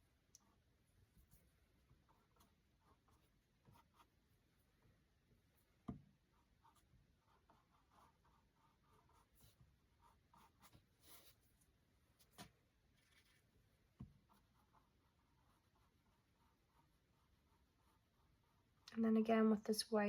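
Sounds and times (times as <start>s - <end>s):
paintbrush scratching and dabbing: 0.2s - 18.9s.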